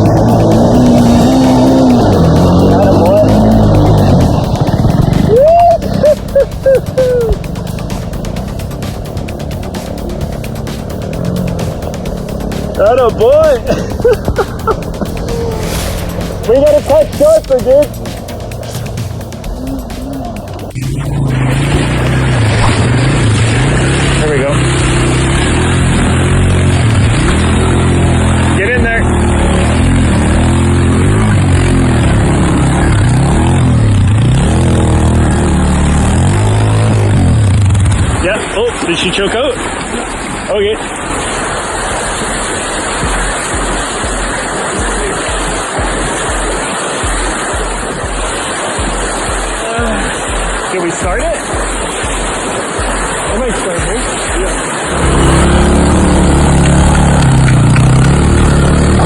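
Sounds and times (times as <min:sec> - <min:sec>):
motorcycle engine revving: 0:00.0 - 0:50.7, 0:51.4 - 0:59.0.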